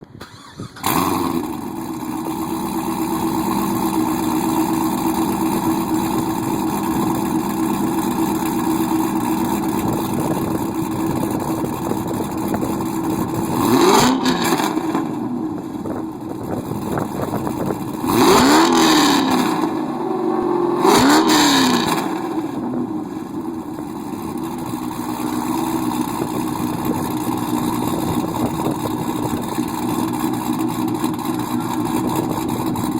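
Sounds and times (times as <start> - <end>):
car engine starting and idling: 0.0 - 32.9
engine revving: 0.2 - 32.9.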